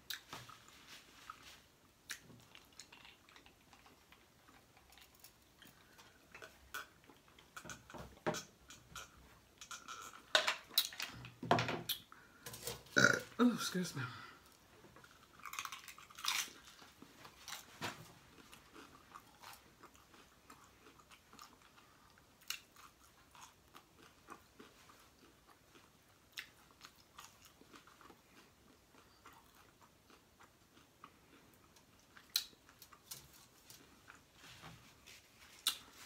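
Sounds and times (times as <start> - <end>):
person chewing crunchy food: 0.0 - 11.3, 14.5 - 36.0.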